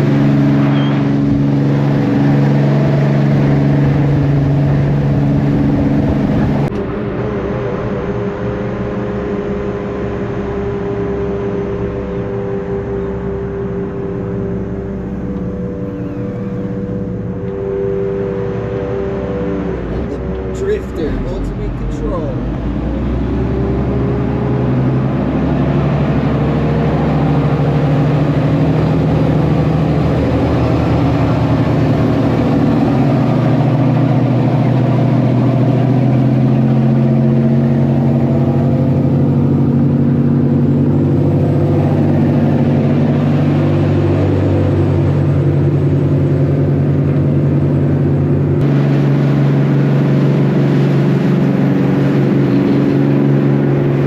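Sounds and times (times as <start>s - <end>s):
boat engines running: 0.0s - 54.0s.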